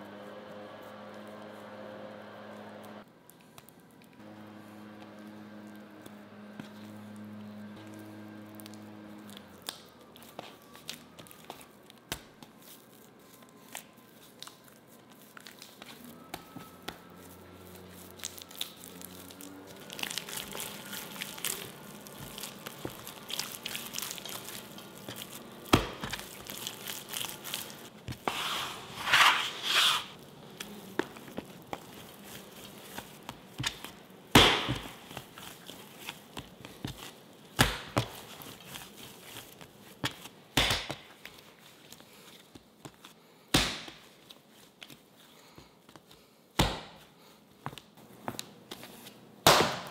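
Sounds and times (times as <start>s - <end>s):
dough tearing and squishing: 5.0s - 49.9s.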